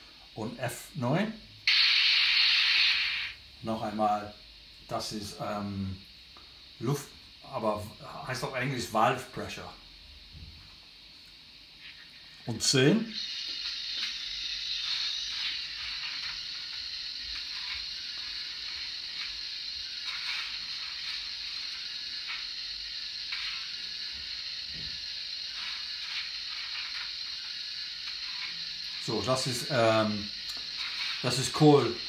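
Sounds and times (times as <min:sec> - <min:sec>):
steady hiss of steam: 0:00.0 - 0:32.0.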